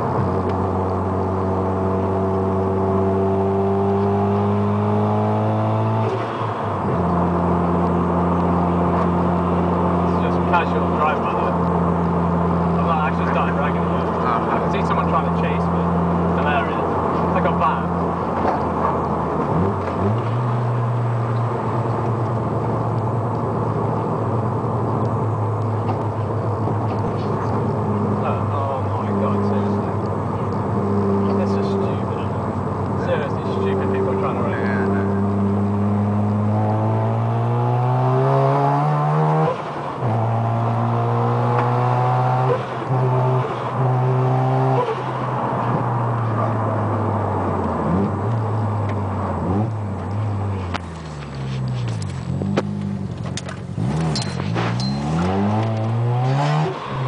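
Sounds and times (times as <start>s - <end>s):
car engine drone: 0.0s - 57.0s
road noise: 0.0s - 57.0s.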